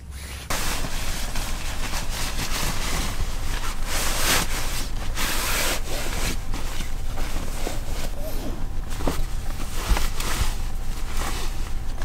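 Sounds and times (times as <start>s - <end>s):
nylon sleeping bag rustling: 0.1s - 12.0s.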